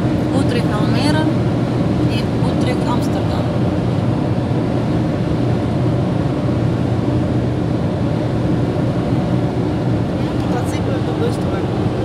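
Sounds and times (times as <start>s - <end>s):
car road noise inside cabin: 0.0s - 12.0s.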